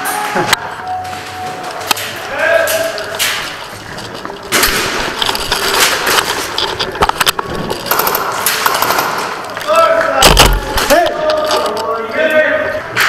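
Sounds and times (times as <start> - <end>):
footsteps: 0.0 - 12.1.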